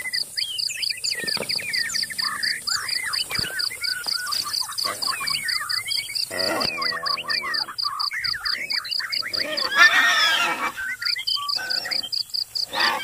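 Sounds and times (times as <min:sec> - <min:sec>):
pulsing insect chirp: 0:00.0 - 0:13.0
harsh animal cry: 0:01.1 - 0:13.0.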